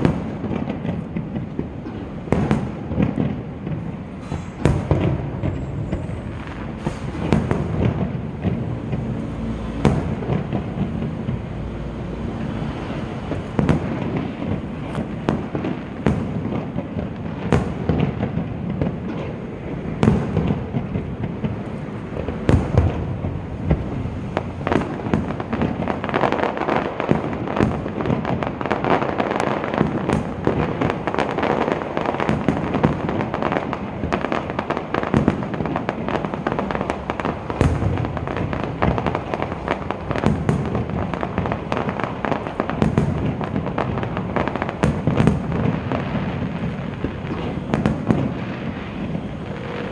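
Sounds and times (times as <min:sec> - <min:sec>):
firework bangs: 0:00.0 - 0:49.9
fireworks crackling: 0:00.0 - 0:49.9.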